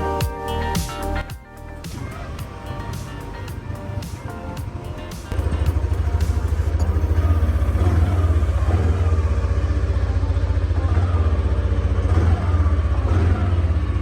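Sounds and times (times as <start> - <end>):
scooter engine idling: 0.0 - 14.0.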